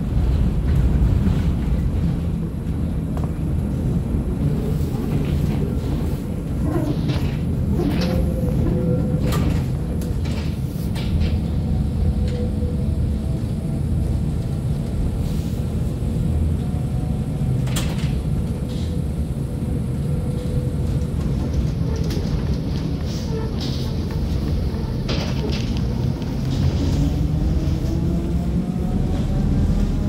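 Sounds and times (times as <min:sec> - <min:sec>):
tram rumbling: 0:00.0 - 0:30.0.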